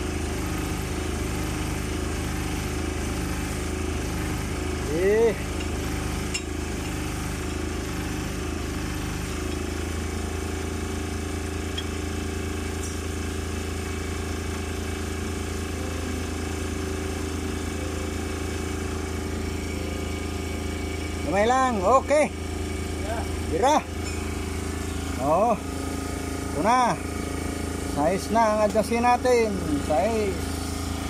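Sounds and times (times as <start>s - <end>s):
engine droning steadily: 0.0s - 31.0s.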